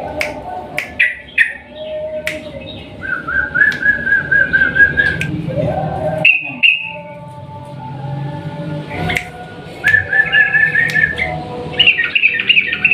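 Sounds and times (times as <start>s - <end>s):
bulbul singing: 0.0s - 7.4s, 8.9s - 12.9s.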